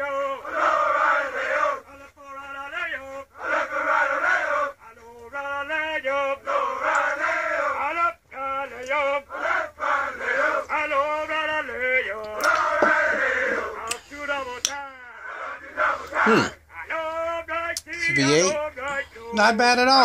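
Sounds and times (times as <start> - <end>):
men chanting marching cadence: 0.0 - 4.8, 5.4 - 17.5.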